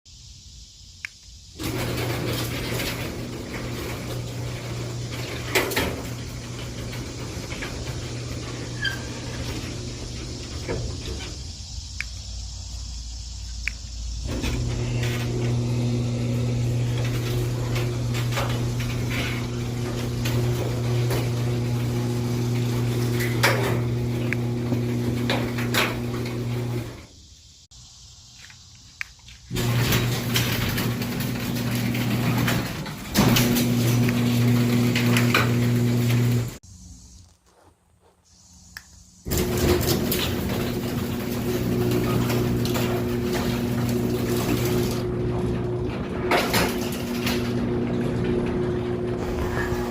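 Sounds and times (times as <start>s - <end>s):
door rattling: 1.6s - 11.7s, 14.2s - 27.1s, 29.5s - 36.6s, 39.3s - 49.9s
garage door motor humming: 1.6s - 12.0s, 13.6s - 27.2s, 29.5s - 36.6s, 39.2s - 49.9s.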